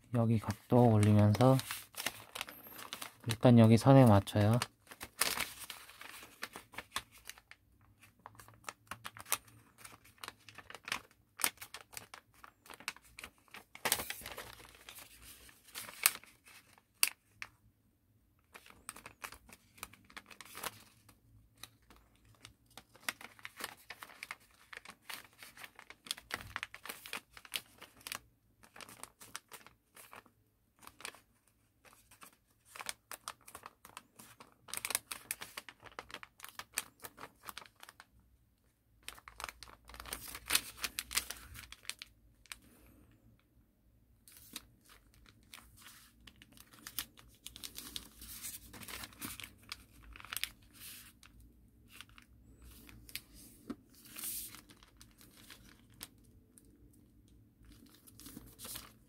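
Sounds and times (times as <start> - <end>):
paper being folded and crinkling: 0.1 - 17.6, 18.4 - 38.1, 39.0 - 43.0, 44.2 - 59.0.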